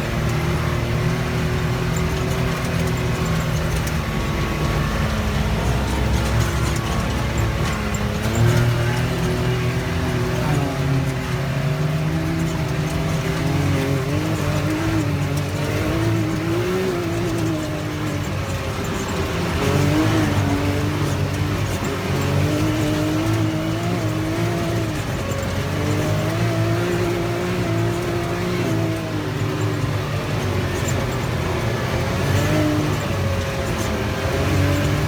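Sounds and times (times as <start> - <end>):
utility vehicle engine revving: 0.0 - 35.0.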